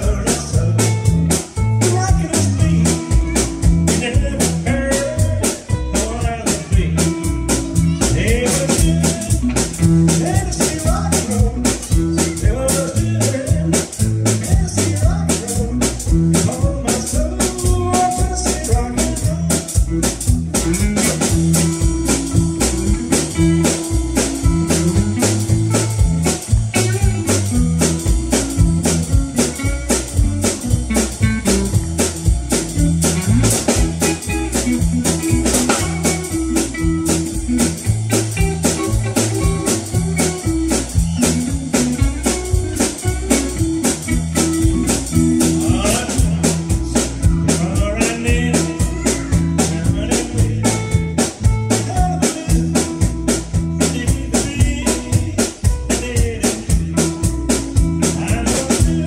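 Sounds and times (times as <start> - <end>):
drum kit beat: 0.0 - 59.0
electric guitar lead lines: 0.0 - 59.0
upright double bass: 0.0 - 59.0.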